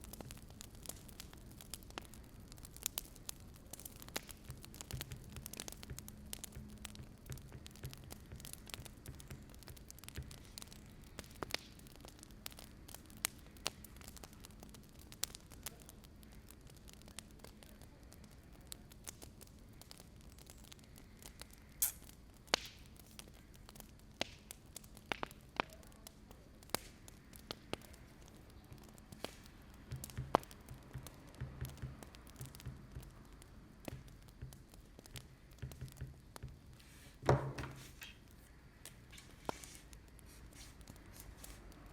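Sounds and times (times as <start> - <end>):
faint steady hiss: 0.0 - 41.9
wood fire crackling: 0.0 - 41.9.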